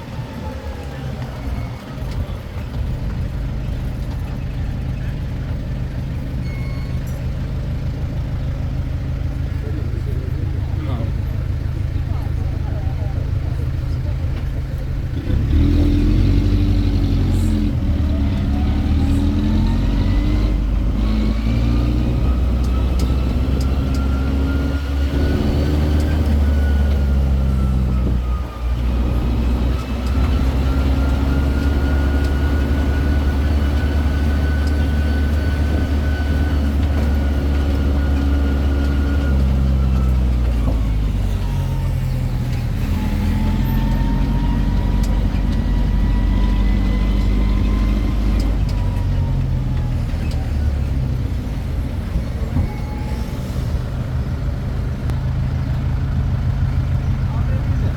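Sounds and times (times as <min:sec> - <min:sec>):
road train engine drone with whine: 0:00.0 - 0:57.9.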